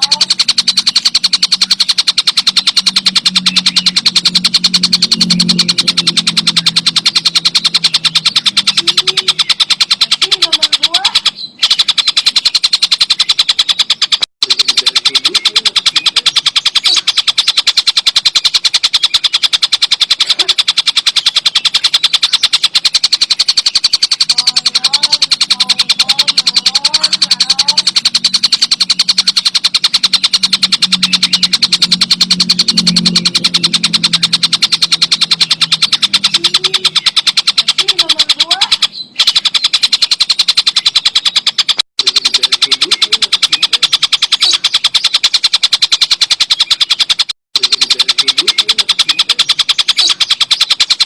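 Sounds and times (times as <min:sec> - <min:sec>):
gliding bird chirps: 0:00.0 - 0:51.0
kingfisher rattling trill: 0:00.0 - 0:51.0.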